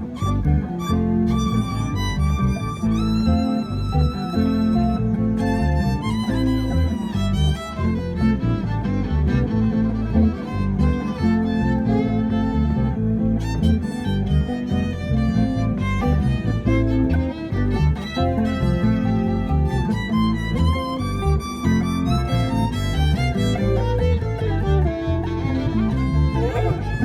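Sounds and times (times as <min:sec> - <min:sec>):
bass: 0:00.0 - 0:27.0
fiddle playing: 0:00.0 - 0:27.0
guitar: 0:00.0 - 0:27.0.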